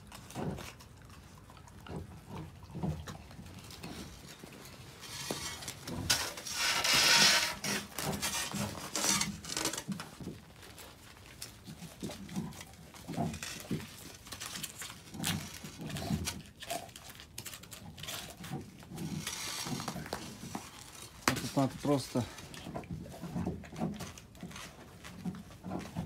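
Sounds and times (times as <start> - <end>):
wolf gnawing frozen meat: 0.0 - 26.0.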